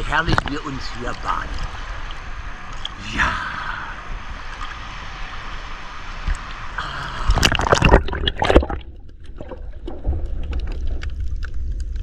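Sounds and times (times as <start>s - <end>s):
water splashing: 0.0s - 11.8s.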